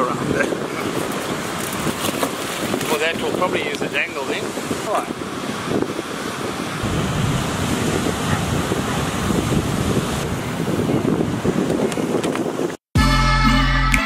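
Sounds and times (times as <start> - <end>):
beach surf: 0.0 - 12.8
wind rumbling on microphone: 0.0 - 12.8.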